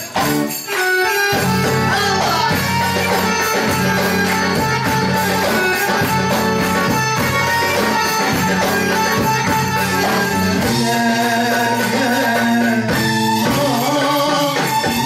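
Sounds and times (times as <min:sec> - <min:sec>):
live arabic band music: 0:00.0 - 0:15.0.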